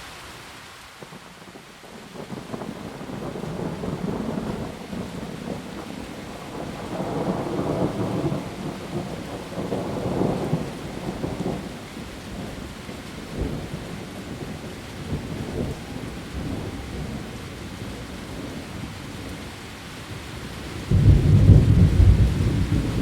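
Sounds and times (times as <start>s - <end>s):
heavy rain on leaves: 0.0s - 23.0s.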